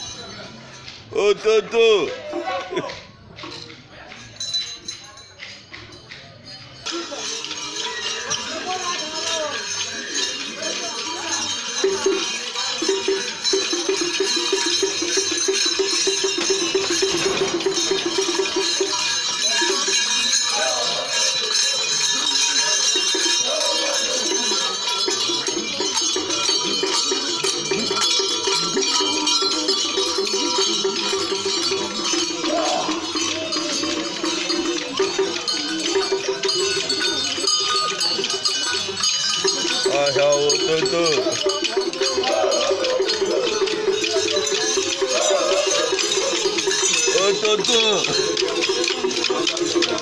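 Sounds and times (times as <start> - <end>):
dense high-pitched din: 7.0 - 50.0.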